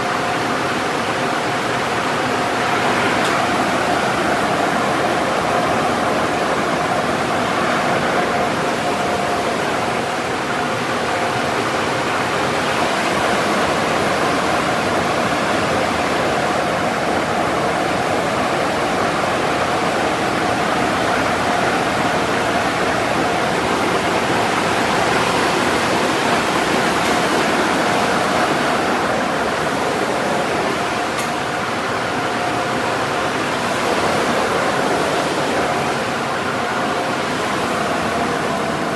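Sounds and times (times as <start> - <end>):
faint machinery whine: 0.0 - 38.9.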